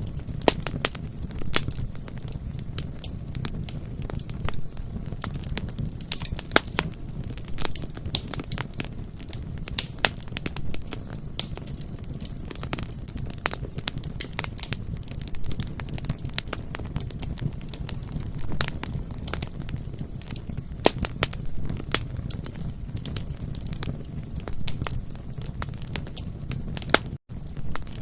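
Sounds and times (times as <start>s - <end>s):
burning wood popping: 0.0s - 28.0s
low rumble of flames: 0.0s - 28.0s.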